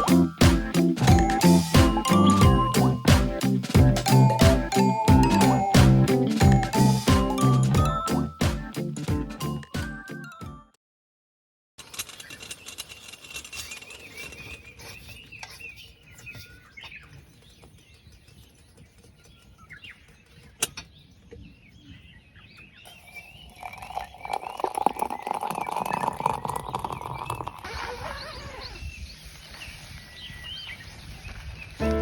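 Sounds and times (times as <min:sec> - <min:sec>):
birds chirping: 0:00.0 - 0:08.8, 0:13.5 - 0:32.0.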